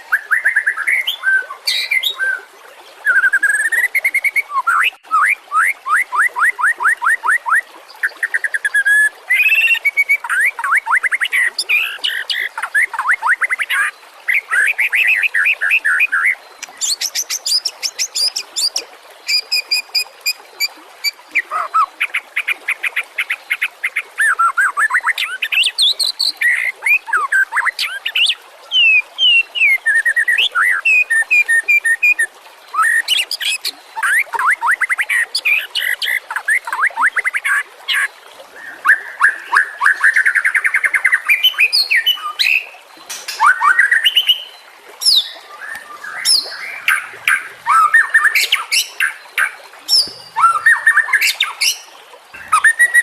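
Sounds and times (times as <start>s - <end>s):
songbird singing whistles and trills: 0.0s - 21.9s, 24.2s - 42.7s, 43.3s - 53.0s.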